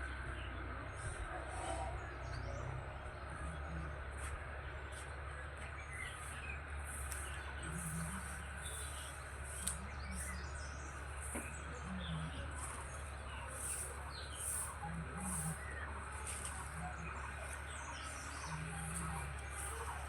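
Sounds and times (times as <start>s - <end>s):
birds chirping: 0.0s - 20.0s
low background hum: 0.0s - 20.0s.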